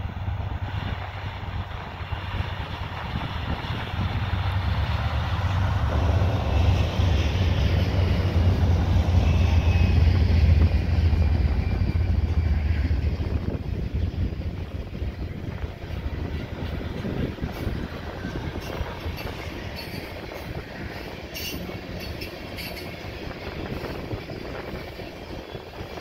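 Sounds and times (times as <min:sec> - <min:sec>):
diesel locomotive engine rumble: 0:00.0 - 0:26.0.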